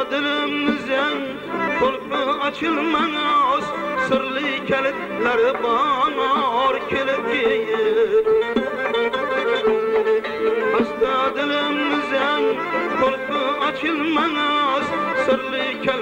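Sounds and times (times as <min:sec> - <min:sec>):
man singing folk song: 0:00.0 - 0:16.0.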